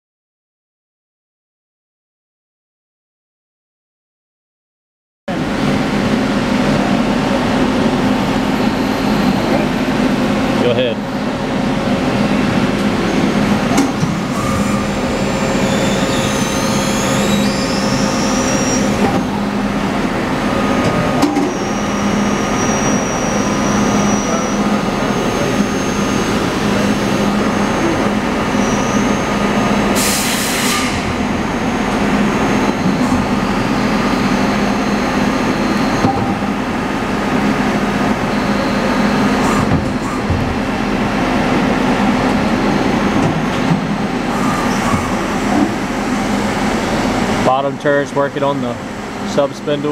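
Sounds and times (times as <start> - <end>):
rising machine whines: 5.3 - 49.9.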